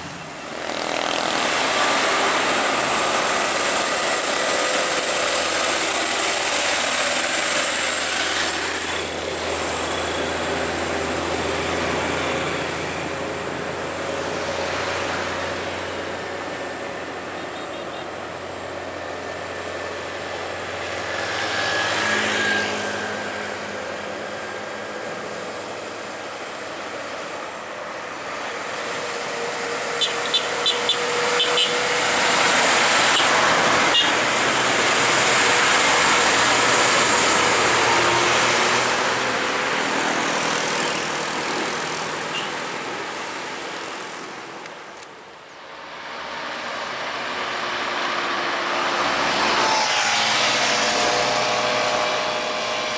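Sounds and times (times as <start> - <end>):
highway traffic passing: 0.0 - 52.9.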